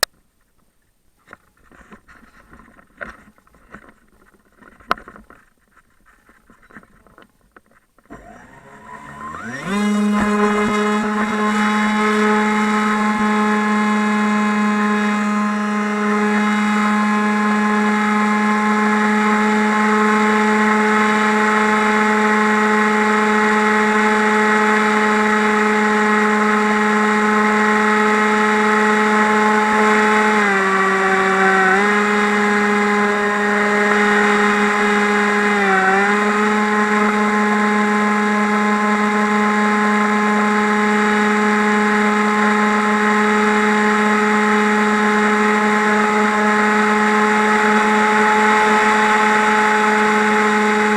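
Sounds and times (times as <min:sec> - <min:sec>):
drone propellers whining: 0:08.0 - 0:50.9.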